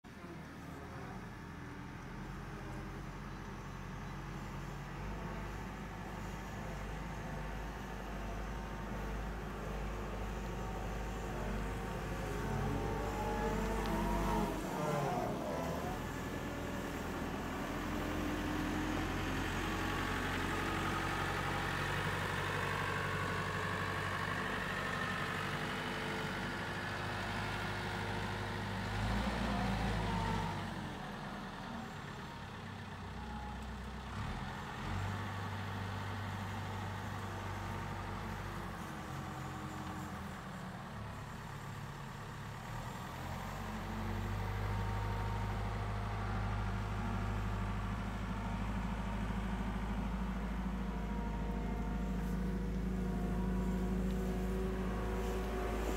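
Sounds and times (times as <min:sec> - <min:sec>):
loader diesel engine droning: 0:00.0 - 0:55.9.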